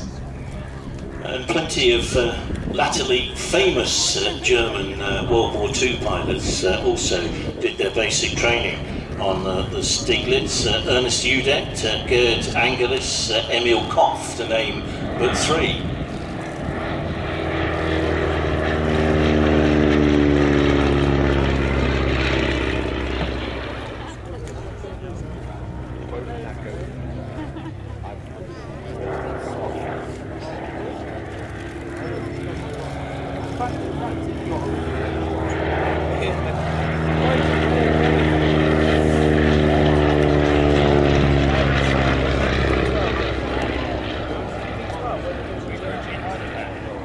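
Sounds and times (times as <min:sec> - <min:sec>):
propeller plane flying past: 0:00.0 - 0:47.0.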